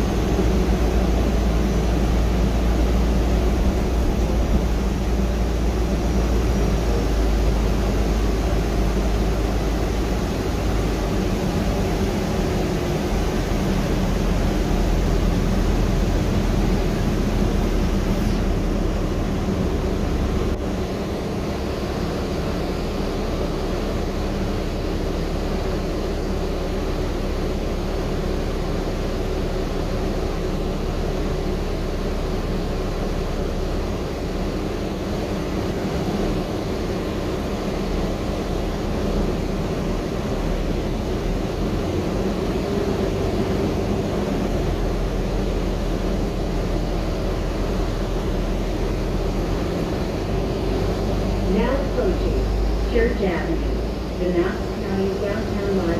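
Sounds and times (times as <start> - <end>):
bus cabin drone: 0.0 - 55.9.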